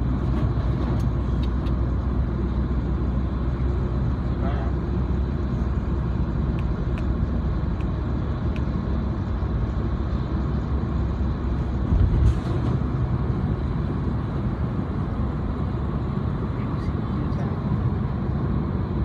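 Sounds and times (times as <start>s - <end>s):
vehicle road and engine rumble: 0.0s - 19.0s.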